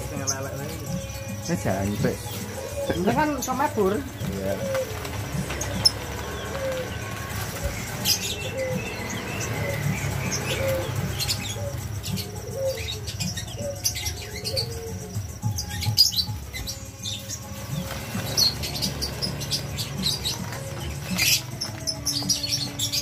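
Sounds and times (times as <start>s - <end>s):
wings fluttering against cages: 0.0s - 14.6s, 15.6s - 23.0s
caged birds chirping: 0.0s - 23.0s.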